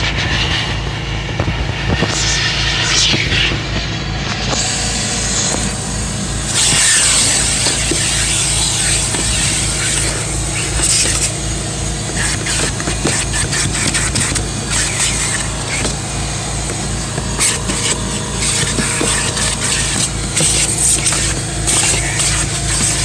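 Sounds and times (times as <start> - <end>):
low pulsing drone: 0.0 - 23.0
vacuum motor with rushing air: 0.0 - 23.0.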